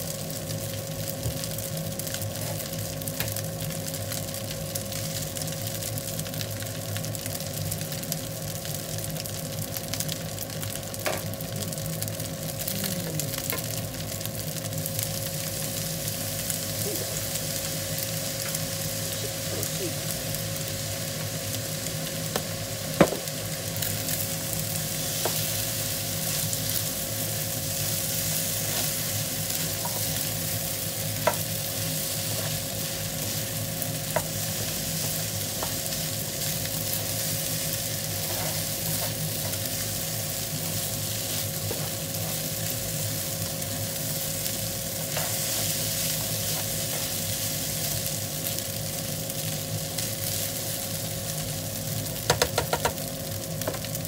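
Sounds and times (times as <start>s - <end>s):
rice sizzling in a frying pan: 0.0s - 54.0s.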